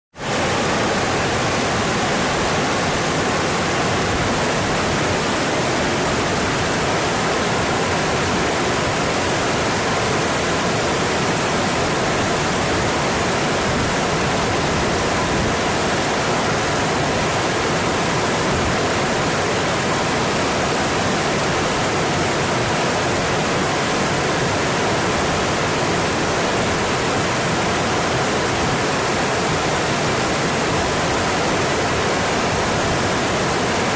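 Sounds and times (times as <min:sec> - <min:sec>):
stream rushing: 0:00.2 - 0:33.9.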